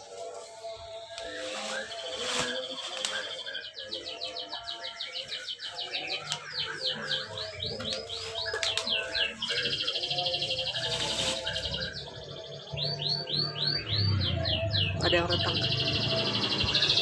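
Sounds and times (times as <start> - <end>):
bird chirping: 0.0 - 17.0
soft background music: 0.0 - 17.0.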